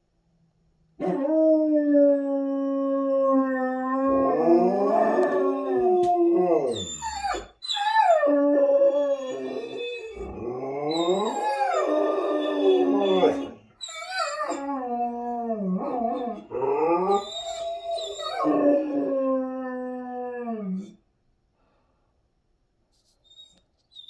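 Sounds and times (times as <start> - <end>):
dogs howling: 1.0 - 20.9.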